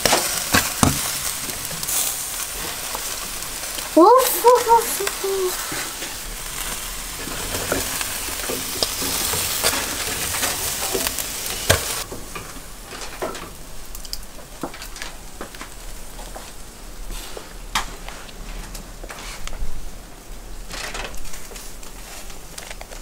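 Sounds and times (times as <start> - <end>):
meat sizzling over charcoal: 0.0 - 23.0.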